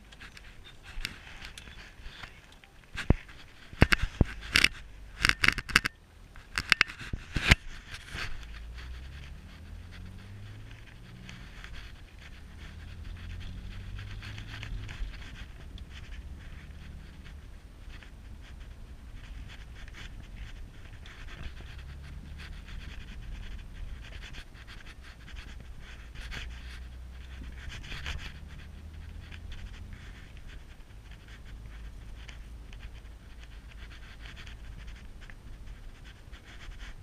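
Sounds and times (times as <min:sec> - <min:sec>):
car engine and road hum: 0:00.0 - 0:37.0.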